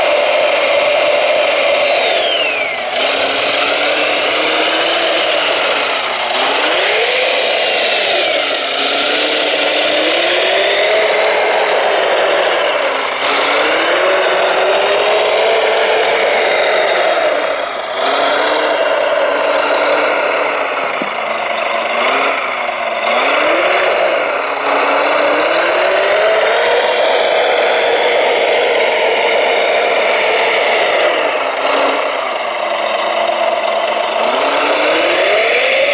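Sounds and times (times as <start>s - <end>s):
model vehicle motors whining: 0.0s - 35.9s.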